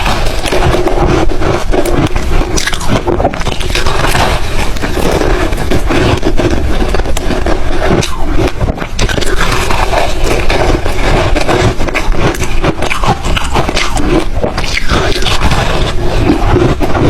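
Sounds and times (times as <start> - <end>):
ice being chewed: 0.0 - 17.0.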